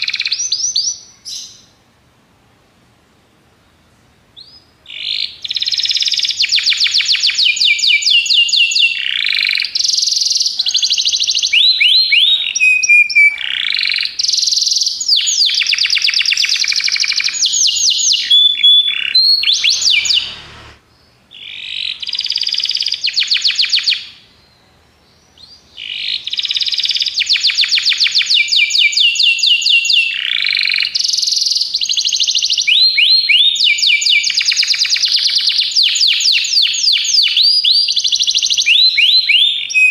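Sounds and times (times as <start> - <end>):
canary singing trills: 0.0 - 1.8, 4.4 - 39.9.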